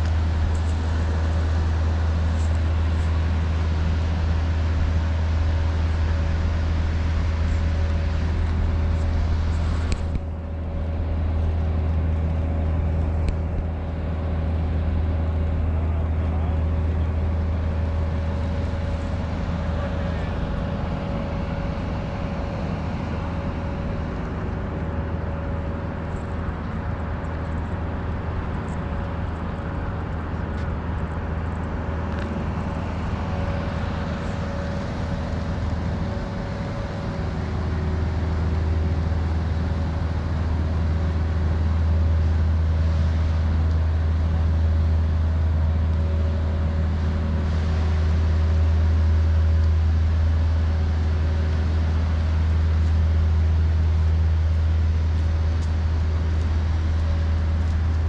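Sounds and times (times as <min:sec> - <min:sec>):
vehicle engines rumbling: 0:00.0 - 0:58.0.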